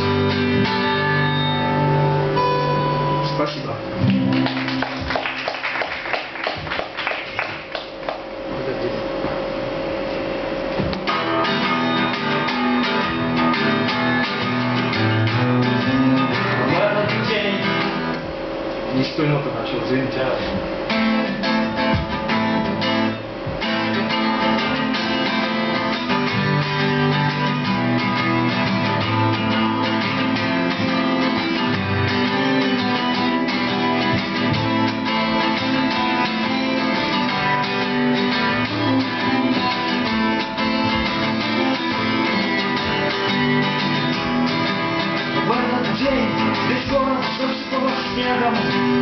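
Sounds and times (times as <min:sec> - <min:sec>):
acoustic guitars playing: 0:00.0 - 0:49.0.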